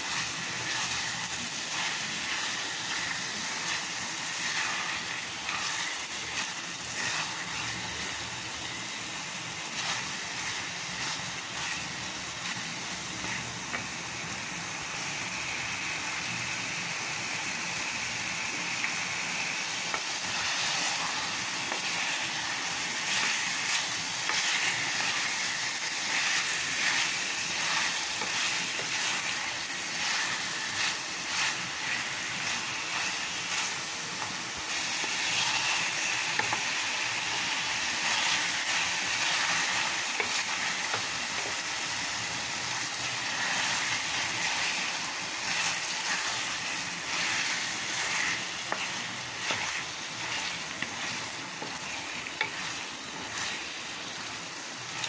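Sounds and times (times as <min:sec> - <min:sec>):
food sizzling in a metal pot: 0:00.0 - 0:55.0.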